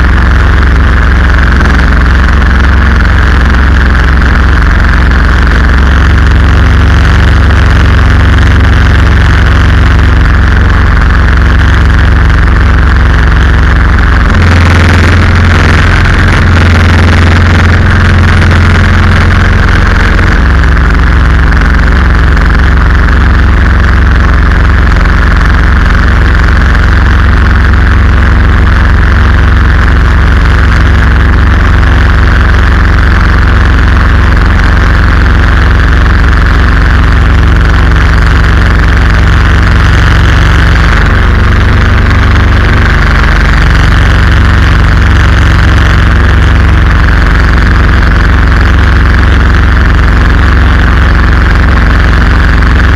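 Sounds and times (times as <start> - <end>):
boat engine running: 0.0 - 52.9
steady rushing noise: 0.0 - 52.9.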